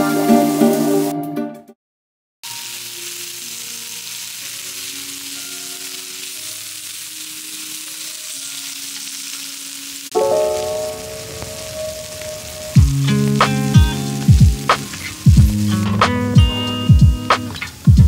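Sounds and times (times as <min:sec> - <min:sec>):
soft music: 0:00.0 - 0:01.8, 0:02.5 - 0:18.0
food sizzling in frying: 0:02.4 - 0:18.0.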